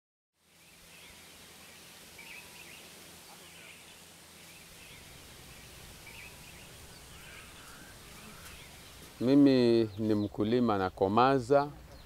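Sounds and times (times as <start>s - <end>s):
small birds chirping: 0.4s - 12.0s
steady hiss: 0.4s - 12.0s.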